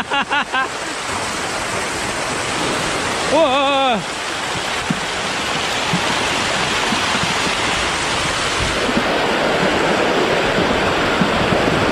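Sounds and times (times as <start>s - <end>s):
fish thrashing and splashing water: 0.8s - 11.9s.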